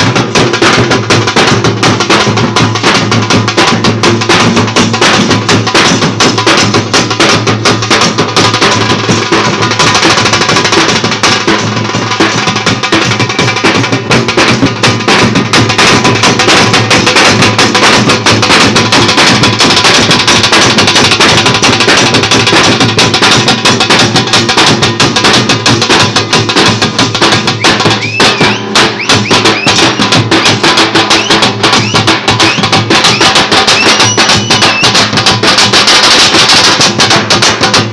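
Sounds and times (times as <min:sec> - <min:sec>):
band music with fast drumming: 0:00.0 - 0:37.9.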